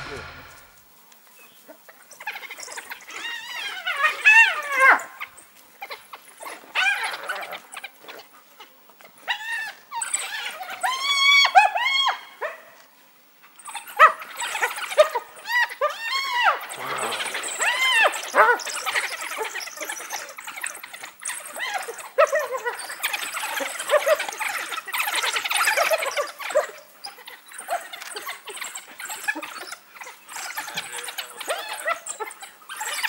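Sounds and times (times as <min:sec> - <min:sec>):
wild dogs twittering and squealing: 0:00.0 - 0:33.0.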